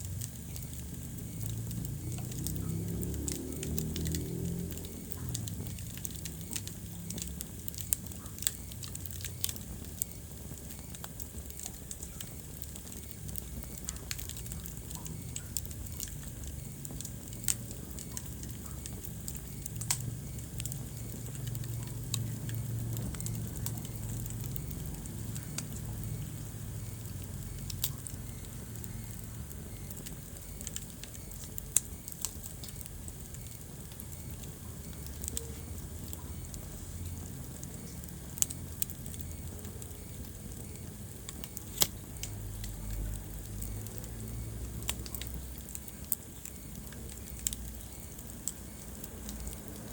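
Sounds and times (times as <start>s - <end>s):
low rumble of flames: 0.0s - 49.9s
wood fire pops and snaps: 0.0s - 49.9s.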